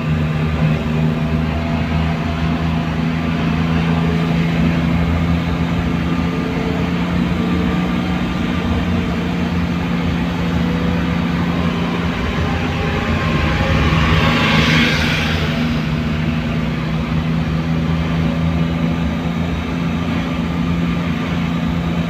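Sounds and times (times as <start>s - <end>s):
car interior road noise: 0.0s - 22.0s.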